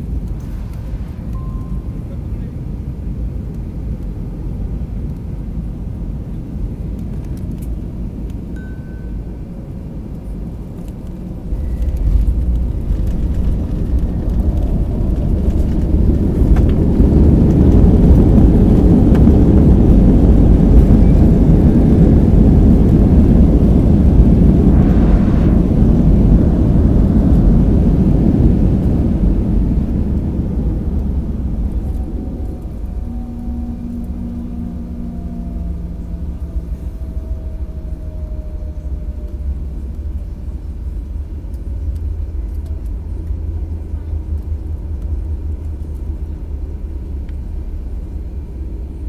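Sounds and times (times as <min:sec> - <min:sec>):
airplane touchdown rumble: 0:00.0 - 0:08.5, 0:09.1 - 0:49.0
jet engine reverse thrust rumble: 0:00.0 - 0:49.0.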